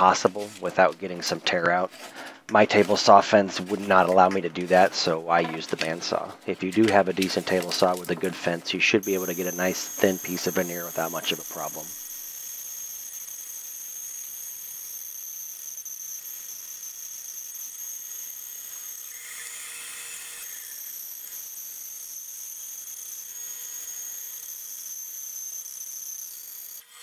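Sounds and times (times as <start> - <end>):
bandsaw cutting wood with whine: 0.0 - 27.0.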